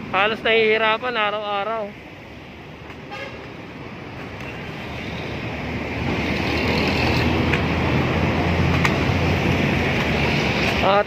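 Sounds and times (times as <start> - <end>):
vehicle engine hum and road noise: 0.0 - 11.0.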